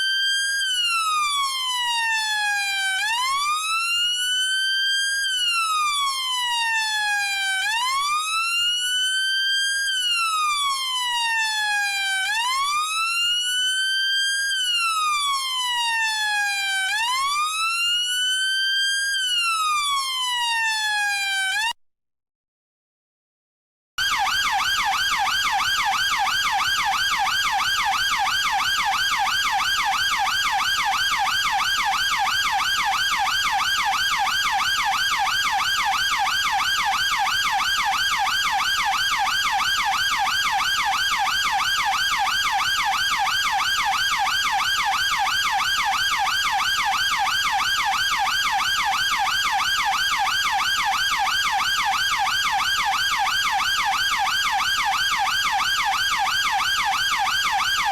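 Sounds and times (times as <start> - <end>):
police siren yelping: 0.0 - 21.7, 24.0 - 57.9.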